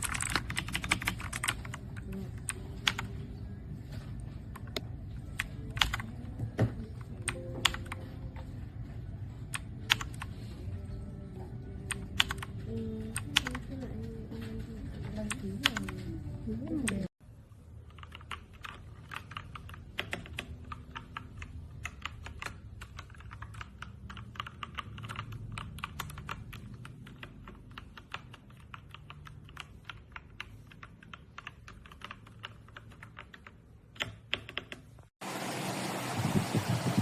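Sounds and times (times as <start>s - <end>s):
mechanical keyboard typing: 0.0s - 3.2s, 4.5s - 8.2s, 9.4s - 10.5s, 11.7s - 17.1s, 17.8s - 34.9s.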